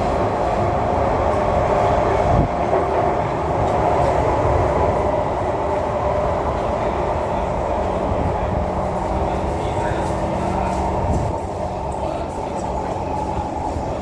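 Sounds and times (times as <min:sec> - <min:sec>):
train rumbling with whine: 0:00.0 - 0:14.0.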